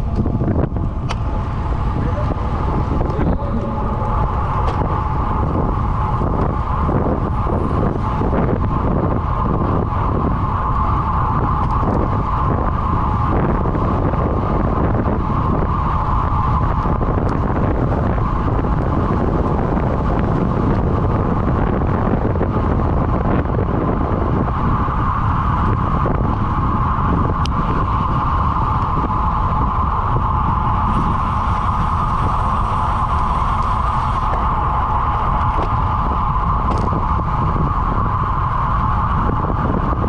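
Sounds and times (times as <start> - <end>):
constant hum: 0.0 - 40.0
wind rushing over microphone: 0.0 - 40.0.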